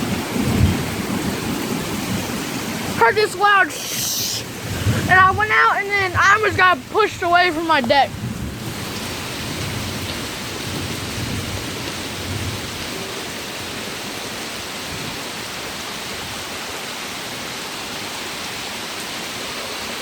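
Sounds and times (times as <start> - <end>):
low gusty wind rumbles: 0.0 - 18.8
heavy rain falling: 0.0 - 20.0.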